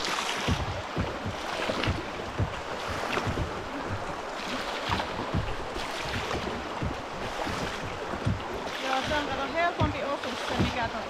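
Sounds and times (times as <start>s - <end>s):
river rushing over rocks: 0.0s - 11.0s
water slapping kayak hulls: 0.0s - 11.0s.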